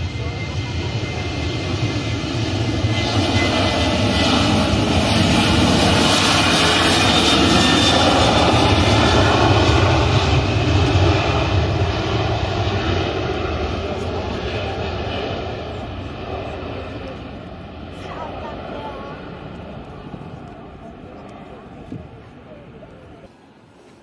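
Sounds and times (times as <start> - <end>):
airliner engine rush: 0.0 - 24.0.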